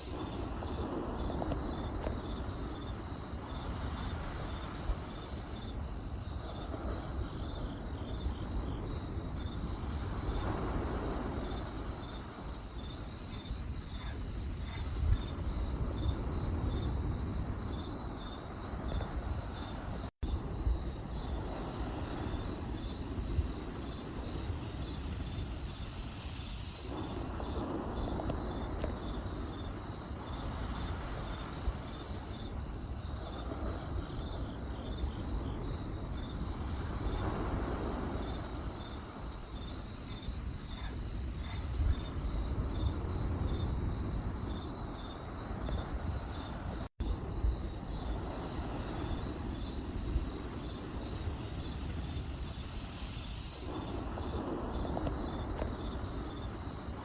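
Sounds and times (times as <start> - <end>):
campfire crackling: 0.0 - 57.0
crickets chirping: 0.0 - 57.0.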